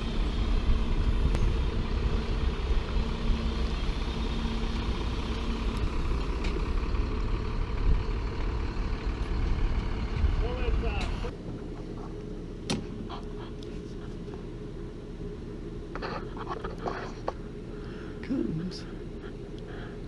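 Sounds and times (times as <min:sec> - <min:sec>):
heavy engine idling: 0:00.0 - 0:18.3.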